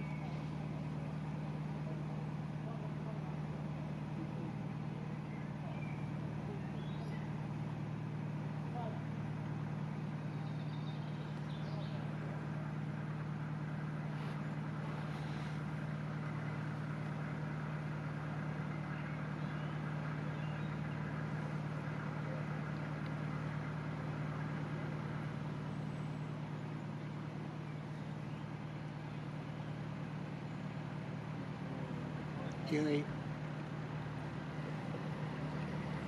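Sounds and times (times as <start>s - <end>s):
boat diesel engine droning: 0.0s - 36.0s.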